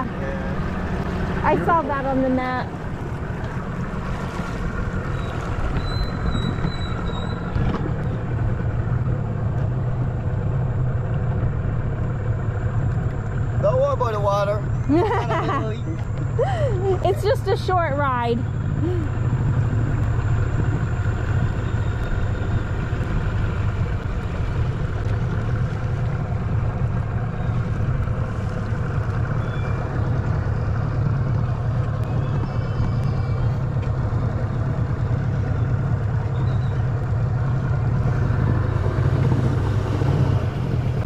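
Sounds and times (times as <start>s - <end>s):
outboard motor humming: 0.0s - 41.0s.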